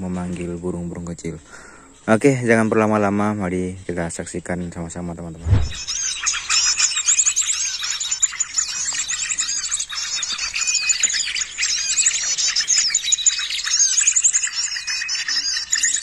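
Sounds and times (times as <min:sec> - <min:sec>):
small birds chirping from phone speaker: 0:00.0 - 0:16.0.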